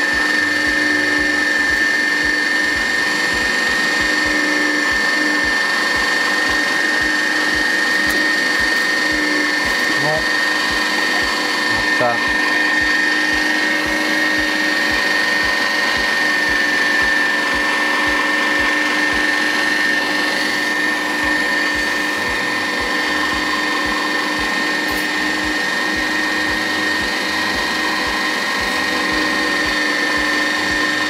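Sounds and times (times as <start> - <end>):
electric meat grinder whining: 0.0 - 31.0.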